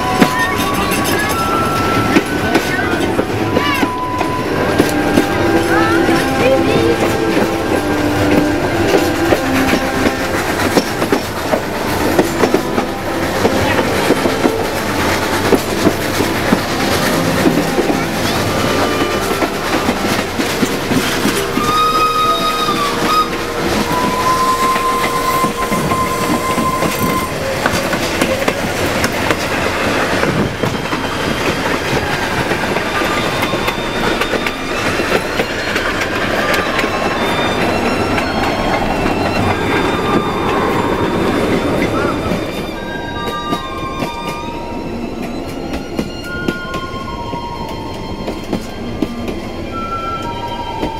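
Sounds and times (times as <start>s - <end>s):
train wheels clattering on rails: 0.0s - 50.9s
train whistle: 0.0s - 50.9s.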